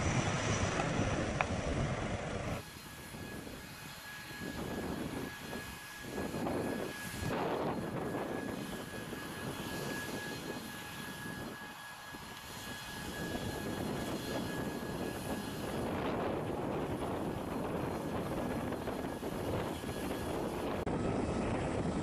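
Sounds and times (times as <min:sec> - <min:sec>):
turboprop aircraft drone and whine: 0:00.0 - 0:22.0.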